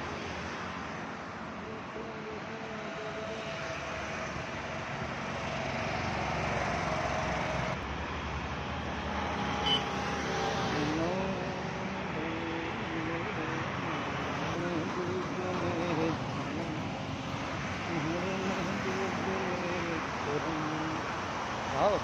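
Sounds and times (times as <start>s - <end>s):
road traffic passing cars: 0.0s - 22.0s.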